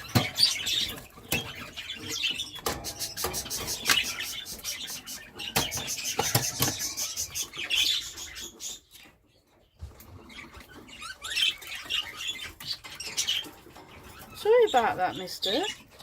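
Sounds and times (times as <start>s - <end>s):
birds rustling in cage: 0.0s - 16.0s
budgerigars chirping: 0.0s - 16.0s.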